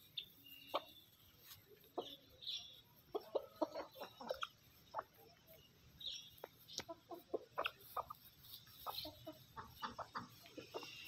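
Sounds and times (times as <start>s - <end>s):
chicken chirps: 0.0s - 11.0s
chickens clucking: 0.0s - 11.0s.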